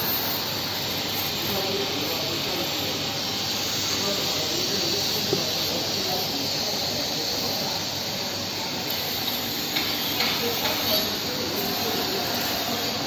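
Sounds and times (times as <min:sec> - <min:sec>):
machine hiss and hum: 0:00.0 - 0:13.0.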